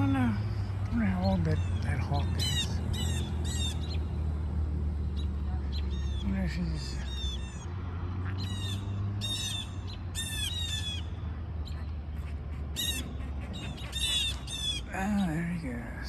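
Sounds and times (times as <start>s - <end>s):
birds squawking alarm calls: 0.0s - 4.4s, 5.0s - 15.7s.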